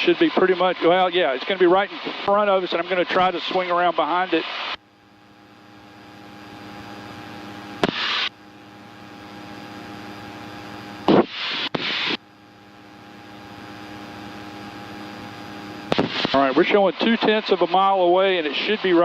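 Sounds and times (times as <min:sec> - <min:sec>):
airplane engine drone: 0:00.0 - 0:19.0.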